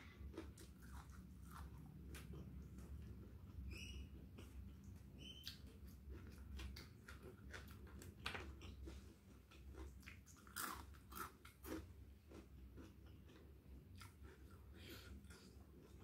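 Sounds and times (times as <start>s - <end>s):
close chewing with mouth clicks: 0.0s - 3.5s, 4.2s - 16.0s.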